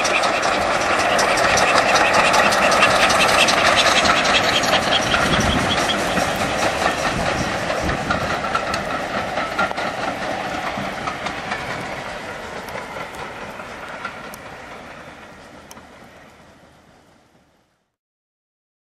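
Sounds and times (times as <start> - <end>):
wheels clicking over rail joints: 0.0 - 17.6
train coaches rolling on rails: 0.0 - 17.8.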